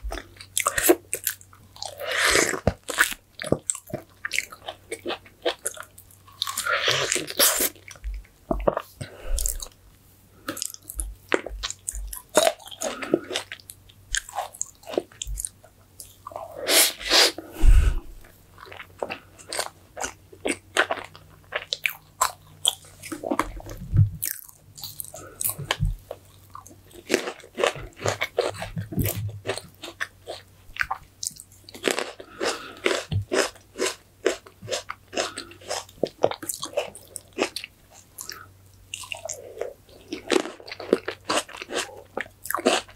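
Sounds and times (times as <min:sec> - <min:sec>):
person chewing and biting food: 0:00.1 - 0:09.8, 0:10.4 - 0:42.9.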